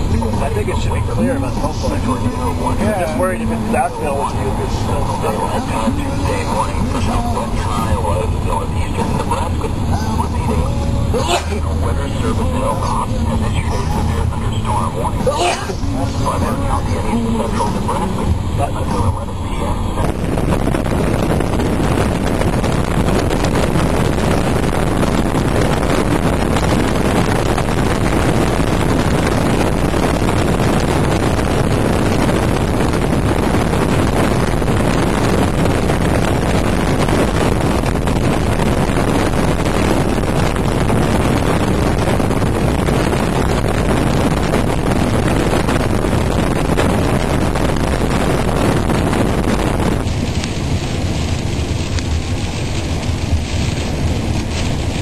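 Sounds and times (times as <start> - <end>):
wind and road noise in car: 0.0 - 55.0.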